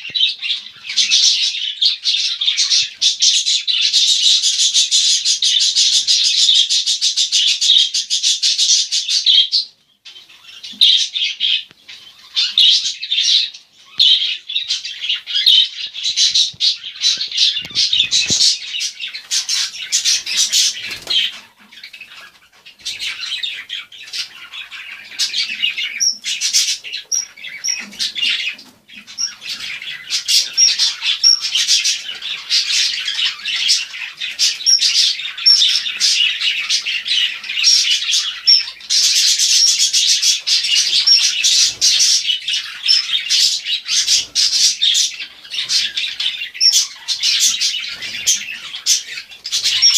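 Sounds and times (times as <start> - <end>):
parrots chirping and chattering: 0.0 - 49.9.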